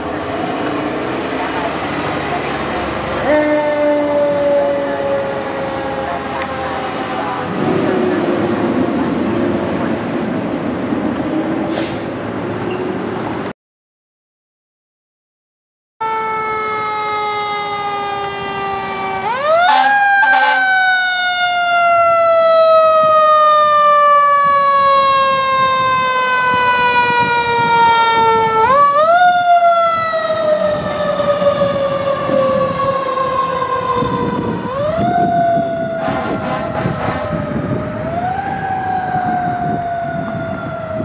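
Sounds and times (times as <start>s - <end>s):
vehicle and road noise: 0.0s - 13.6s, 16.0s - 41.0s.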